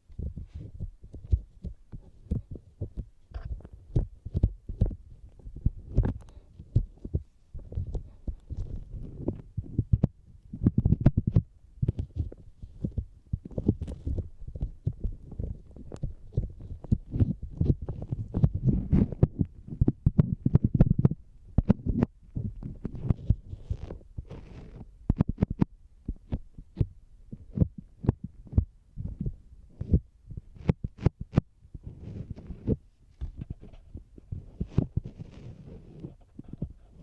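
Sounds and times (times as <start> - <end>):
fingertips tapping on microphone: 0.0 - 37.0.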